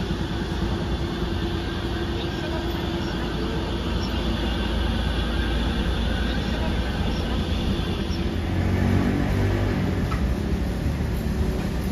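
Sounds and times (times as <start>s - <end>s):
streetcar wheels rumbling on rails: 0.0s - 11.9s.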